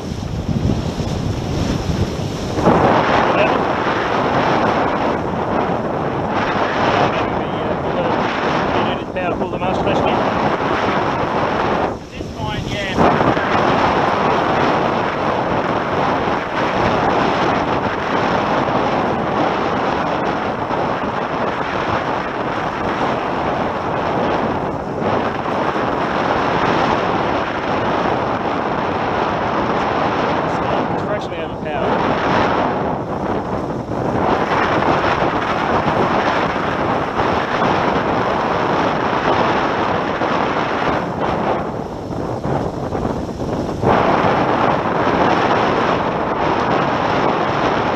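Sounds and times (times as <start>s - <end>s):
water rushing along hulls: 0.0s - 47.9s
wind buffeting microphone: 0.0s - 47.9s.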